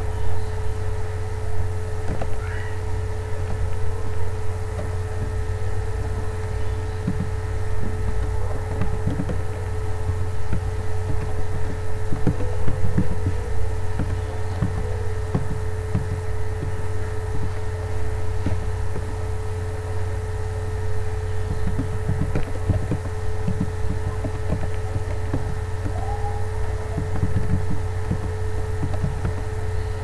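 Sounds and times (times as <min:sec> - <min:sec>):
faint steady whine: 0:00.0 - 0:30.0
low electrical hum: 0:00.0 - 0:30.0.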